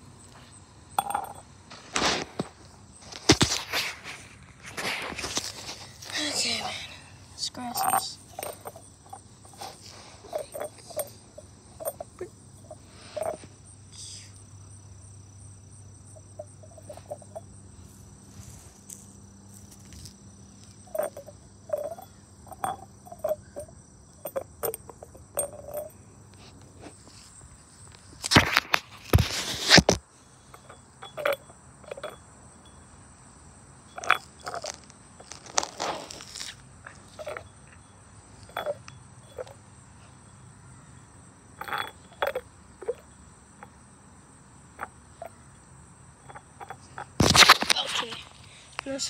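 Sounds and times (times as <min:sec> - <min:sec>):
insects trilling: 0:00.0 - 0:49.0.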